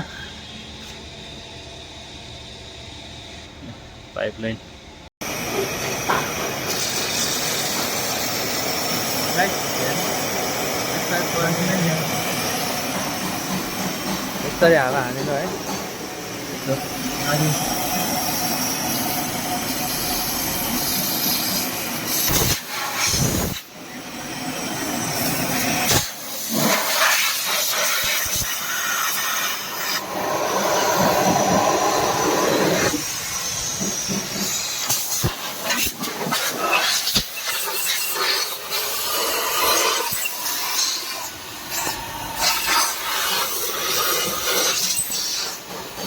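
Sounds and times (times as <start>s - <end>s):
compressed air blow gun hissing: 5.5s - 14.4s, 16.1s - 23.7s, 25.0s - 45.7s.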